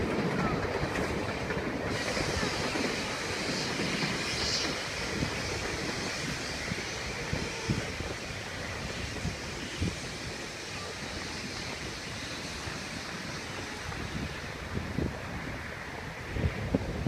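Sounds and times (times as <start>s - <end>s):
train carriages rumbling: 0.0s - 17.0s
wind buffeting microphone: 0.0s - 17.0s.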